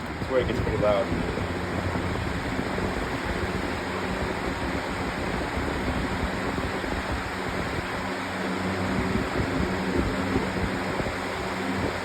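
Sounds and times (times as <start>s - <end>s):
box fan blowing air: 0.0s - 12.0s.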